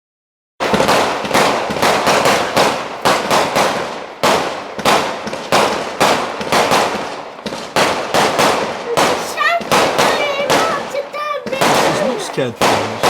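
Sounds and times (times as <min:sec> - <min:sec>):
fireworks bangs with rumbling echo: 0:00.6 - 0:13.0.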